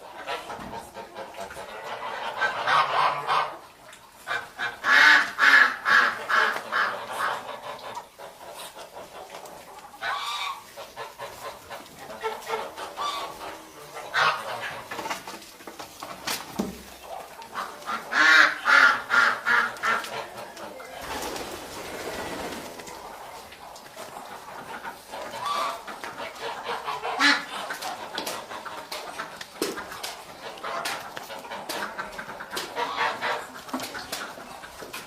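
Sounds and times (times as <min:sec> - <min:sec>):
geese honking: 0:00.0 - 0:03.7, 0:04.3 - 0:15.3, 0:17.0 - 0:21.4, 0:22.0 - 0:34.6.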